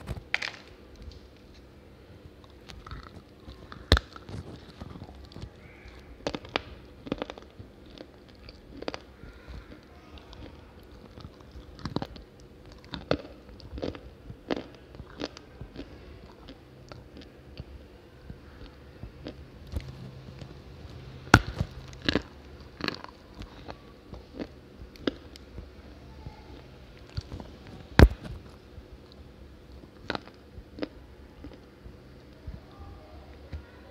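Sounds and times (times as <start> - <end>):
dry clay crunching when chewed: 2.3 - 25.7, 26.5 - 32.4.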